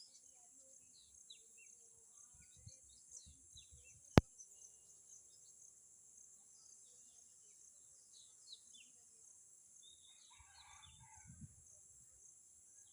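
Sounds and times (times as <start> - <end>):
faint bird chirps: 0.0 - 9.0, 9.8 - 12.9
high insect-like hiss: 0.0 - 12.9.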